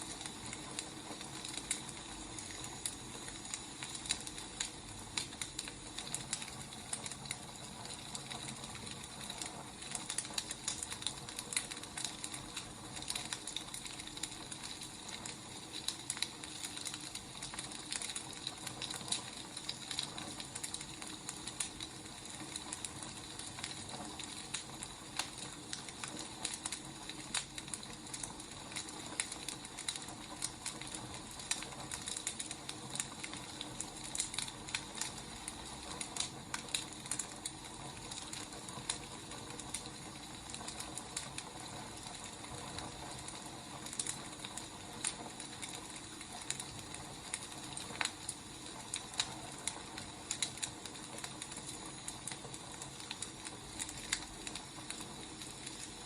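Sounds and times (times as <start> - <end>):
firewood crackling and popping: 0.0 - 56.0.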